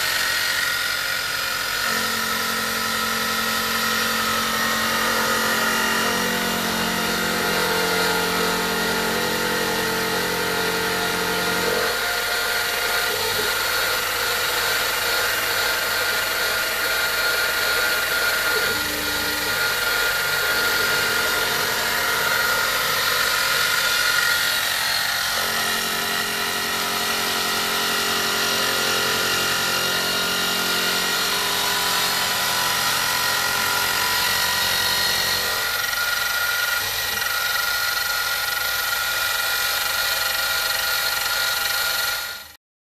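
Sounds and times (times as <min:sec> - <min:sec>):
milling machine whining: 0:00.0 - 0:42.6.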